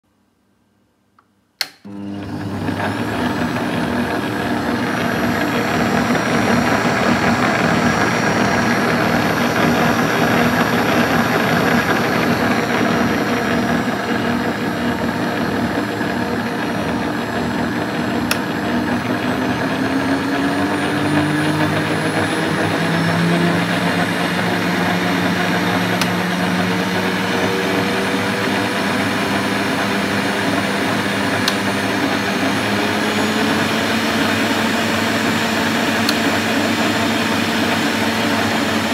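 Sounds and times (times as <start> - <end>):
stand mixer motor whirring: 1.8 - 38.9.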